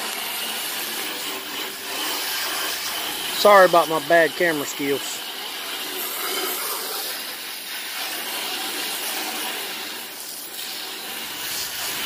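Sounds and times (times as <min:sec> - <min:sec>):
hose spraying water on metal: 0:00.0 - 0:12.0.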